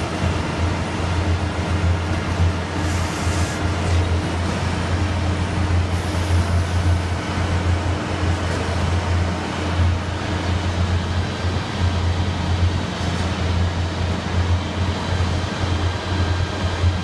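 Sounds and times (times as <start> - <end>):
heavy diesel engines rumbling: 0.0 - 17.0.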